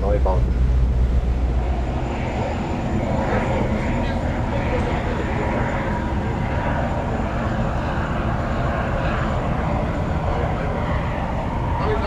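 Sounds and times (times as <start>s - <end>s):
faint steady whine: 0.0s - 12.0s
wind buffeting microphone: 0.0s - 12.0s.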